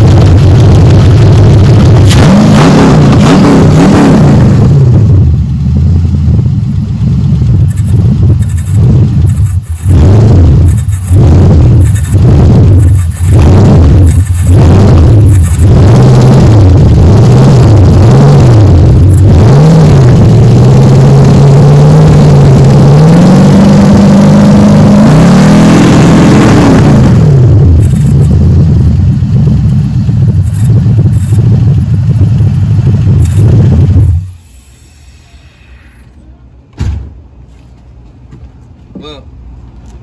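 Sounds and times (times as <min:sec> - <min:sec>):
car engine revving: 0:00.0 - 0:36.1.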